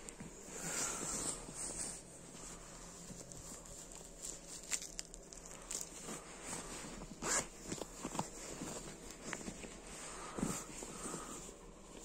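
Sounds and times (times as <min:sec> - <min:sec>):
jacket fabric rustling: 0:00.0 - 0:12.0.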